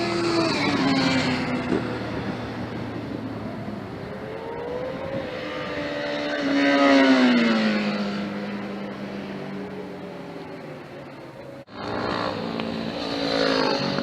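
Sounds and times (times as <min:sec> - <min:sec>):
motorcycle passing by: 0:00.0 - 0:10.7, 0:11.7 - 0:14.0.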